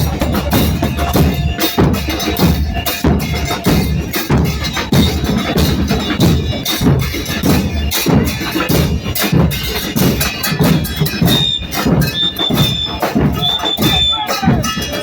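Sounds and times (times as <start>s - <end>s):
bass drums and cymbals playing: 0.0s - 15.0s.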